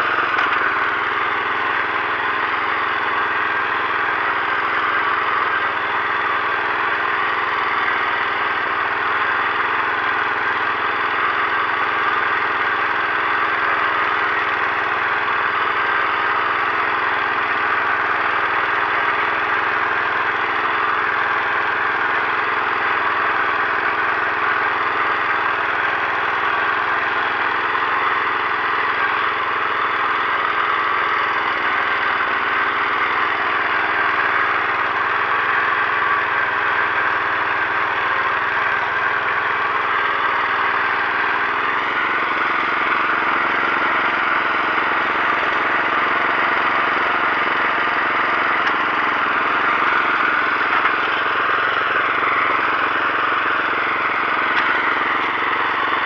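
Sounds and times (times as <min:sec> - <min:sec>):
walk-behind tractor engine running: 0:00.0 - 0:56.0.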